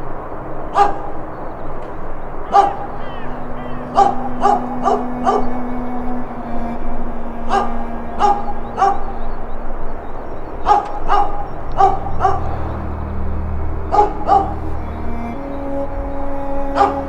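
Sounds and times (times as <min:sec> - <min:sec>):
faint steady drone: 0:00.0 - 0:17.0
animal barking: 0:00.6 - 0:15.2, 0:16.0 - 0:17.0.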